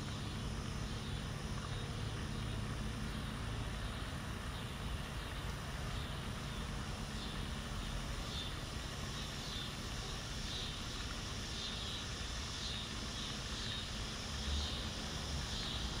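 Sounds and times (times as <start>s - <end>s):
distant traffic rumble: 0.0s - 16.0s
insects calling: 0.0s - 16.0s.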